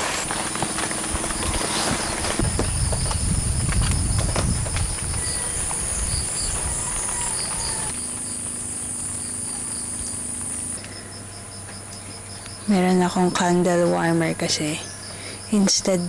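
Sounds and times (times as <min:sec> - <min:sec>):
insect chirp pulsing: 0:00.0 - 0:16.0
insects droning: 0:00.0 - 0:16.0.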